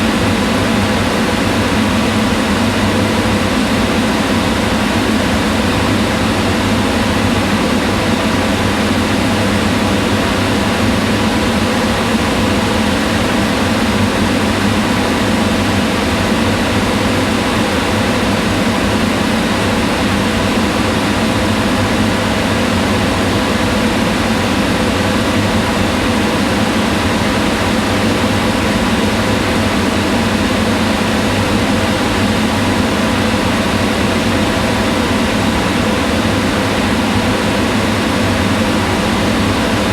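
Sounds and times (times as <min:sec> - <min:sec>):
range hood fan running: 0:00.0 - 0:39.9.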